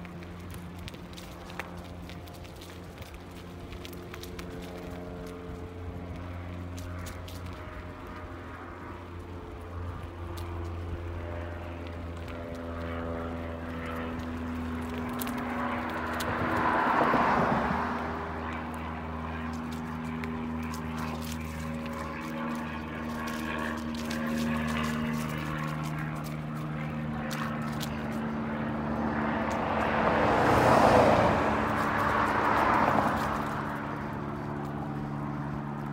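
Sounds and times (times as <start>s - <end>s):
engine drone: 0.0s - 35.9s.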